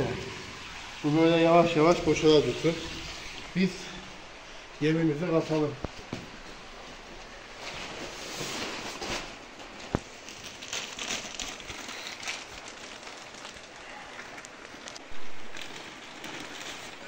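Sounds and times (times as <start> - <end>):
plastic sacks rustling: 0.0 - 17.0.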